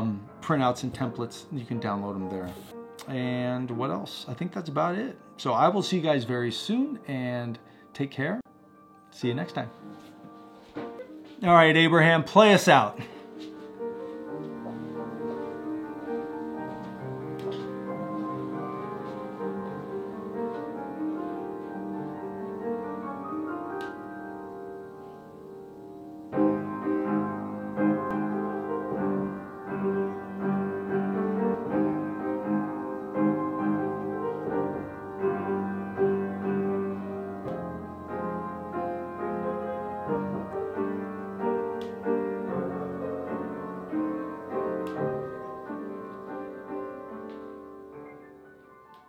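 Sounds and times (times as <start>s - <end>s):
slow piano piece: 0.0s - 49.0s.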